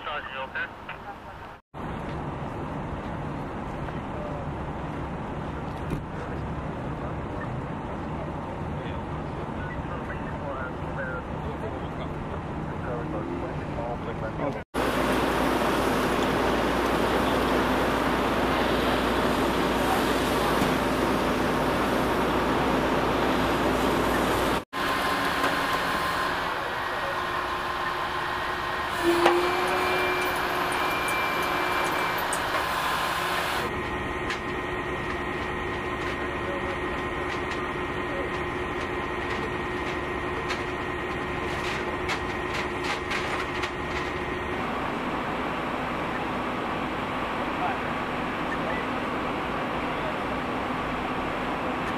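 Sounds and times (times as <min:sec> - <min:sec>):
heavy vehicle engine running: 0:00.0 - 0:51.9.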